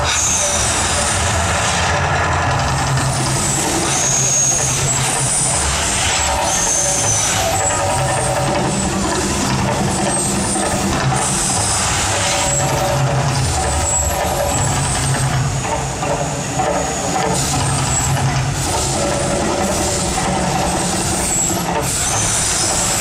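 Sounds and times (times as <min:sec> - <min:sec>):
hissing whoosh of gas flame jets: 0:00.0 - 0:23.0.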